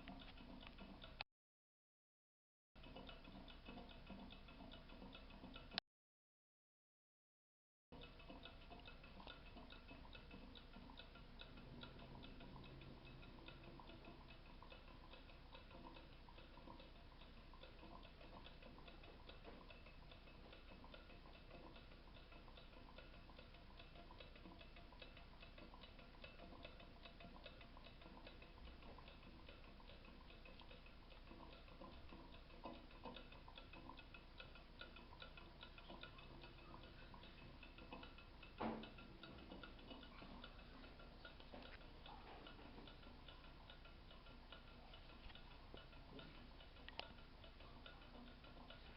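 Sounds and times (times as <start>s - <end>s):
rapid faint ticking: 0.0s - 1.2s, 2.8s - 5.8s, 8.0s - 48.9s.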